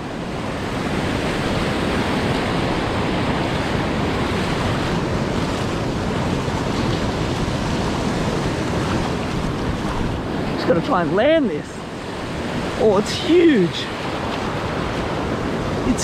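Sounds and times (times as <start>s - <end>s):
waves washing on beach: 0.0s - 16.0s
wind buffeting microphone: 0.0s - 16.0s.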